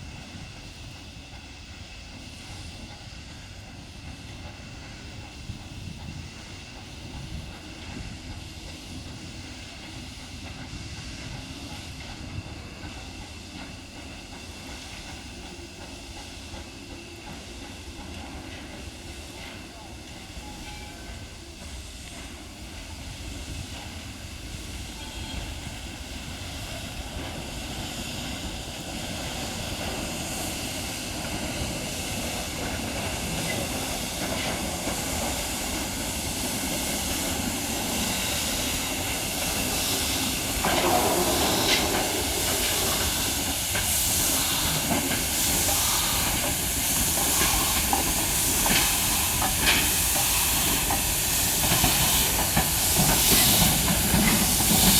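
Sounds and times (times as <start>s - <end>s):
steam locomotive hissing steam: 0.0s - 54.9s.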